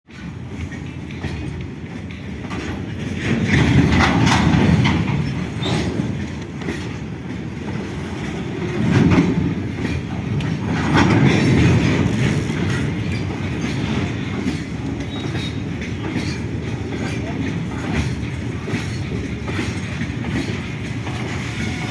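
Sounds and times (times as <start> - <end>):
train wheels rumbling and clacking: 0.1 - 21.9.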